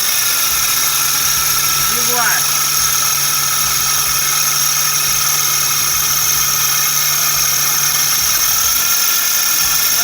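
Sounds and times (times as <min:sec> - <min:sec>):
high bearing whine: 0:00.0 - 0:10.0.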